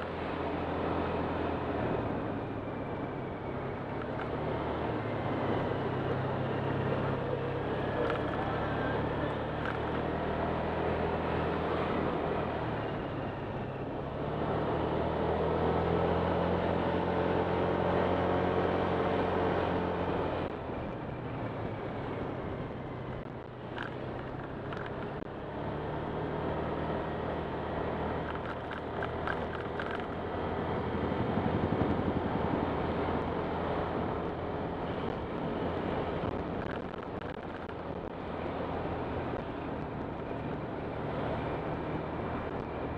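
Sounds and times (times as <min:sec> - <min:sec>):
road and wind rush: 0:00.0 - 0:42.9.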